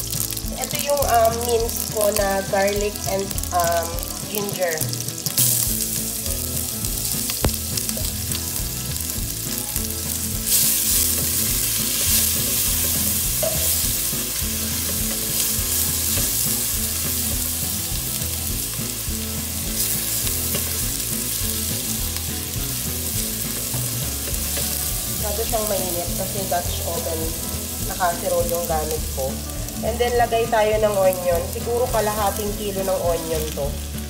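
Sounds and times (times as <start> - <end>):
garlic sizzling in butter: 0.0 - 34.0.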